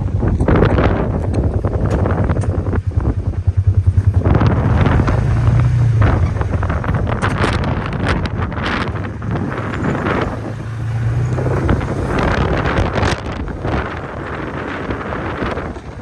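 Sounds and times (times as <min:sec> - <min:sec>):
vehicle engine droning: 0:00.0 - 0:16.0
wind buffeting microphone: 0:00.0 - 0:16.0.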